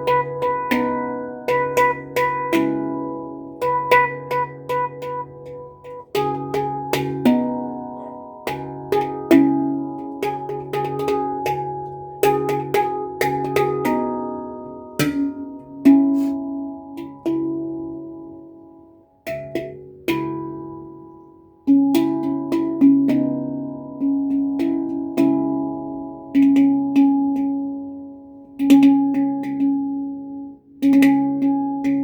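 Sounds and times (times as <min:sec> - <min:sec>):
handpan notes ringing: 0:00.0 - 0:32.0.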